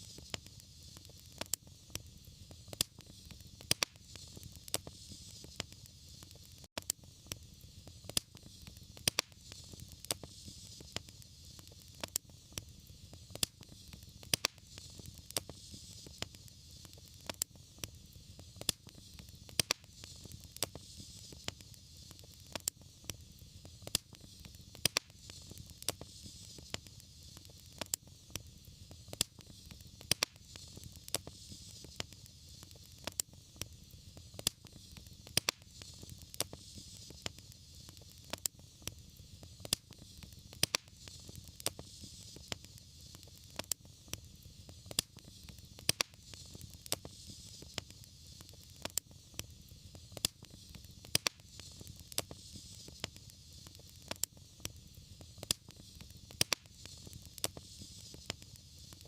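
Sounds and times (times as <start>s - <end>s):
flames hissing and rumbling: 0.0s - 59.0s
sharp pops: 0.0s - 59.0s
wood fire crackling: 0.0s - 59.0s.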